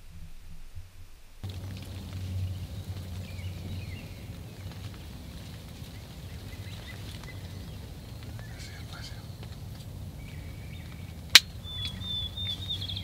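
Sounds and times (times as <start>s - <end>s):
steady low rumble: 0.0s - 13.0s
faint bird calls: 1.4s - 13.0s.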